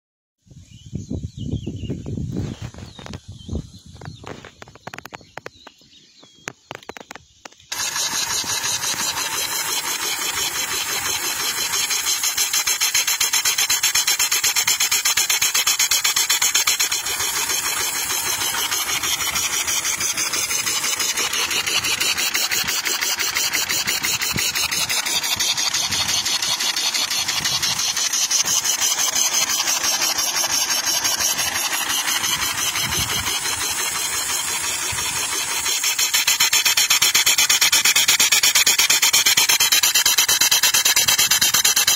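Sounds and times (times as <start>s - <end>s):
steam engine chuffing: 7.7s - 41.9s
steam hiss: 7.7s - 41.9s.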